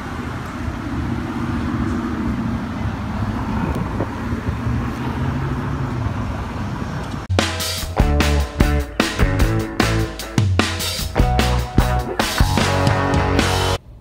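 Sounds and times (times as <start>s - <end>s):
engines running: 0.0s - 14.0s
traffic rumble: 0.0s - 14.0s.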